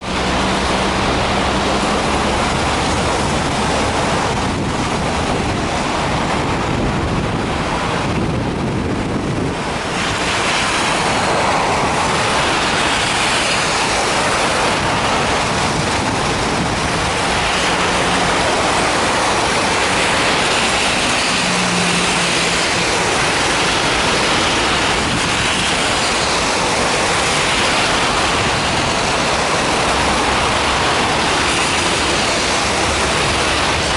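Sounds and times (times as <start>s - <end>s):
strong wind blowing: 0.0s - 33.9s
wind buffeting the microphone: 0.0s - 33.9s.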